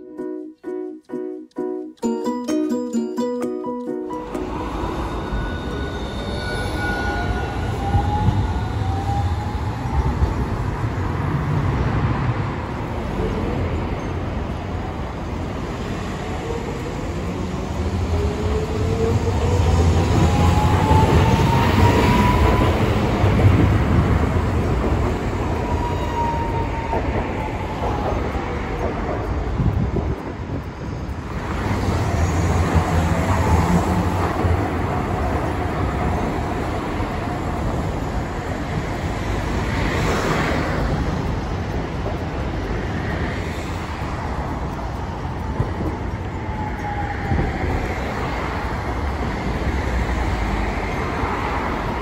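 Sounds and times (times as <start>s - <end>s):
road traffic: 0.0s - 52.0s
tram rumbling along track: 0.0s - 52.0s.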